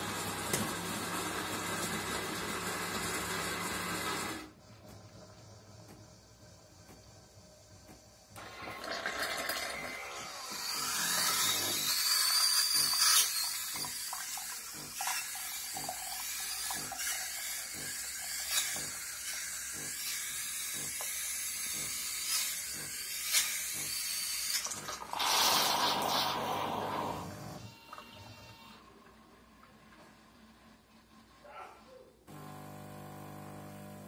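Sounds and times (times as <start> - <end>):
steam frothing milk: 0.0 - 27.6.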